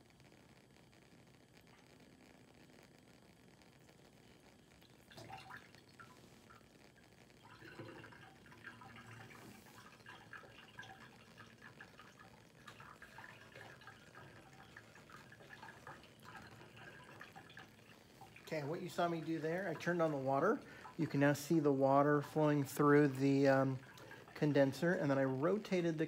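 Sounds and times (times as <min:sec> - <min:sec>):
water trickling through tubing: 0:01.6 - 0:26.0.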